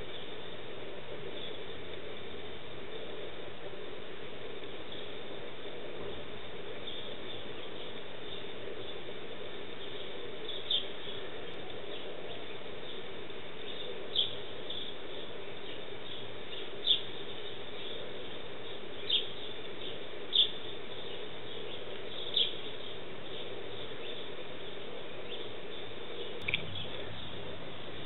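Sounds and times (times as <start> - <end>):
sparrows chirping: 0.0 - 0.6, 1.2 - 1.9, 4.8 - 28.0
low background hum: 0.0 - 28.0.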